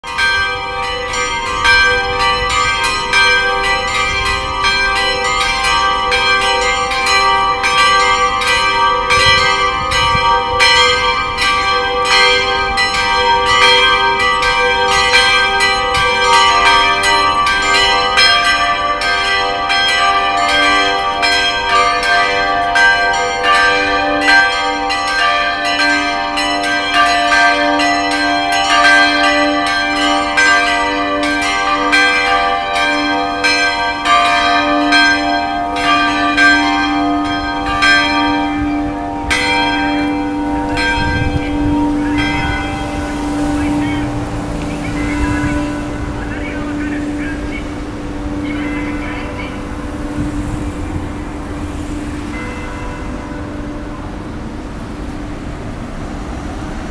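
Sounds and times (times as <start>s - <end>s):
tuned bells ringing a peal: 0.0s - 51.3s, 52.2s - 54.2s.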